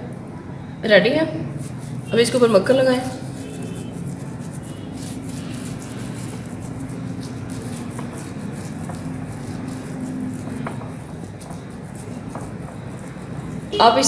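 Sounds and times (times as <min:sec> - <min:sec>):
steady low hum: 0:00.0 - 0:14.0
butter knife scraping bread: 0:01.5 - 0:13.8.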